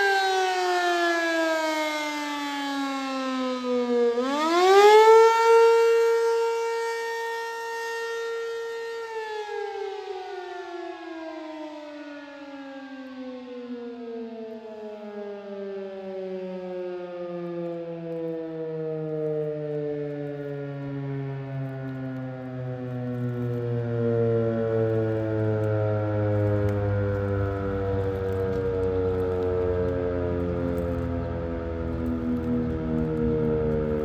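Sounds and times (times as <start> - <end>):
electromechanical fire siren: 0.0 - 34.0.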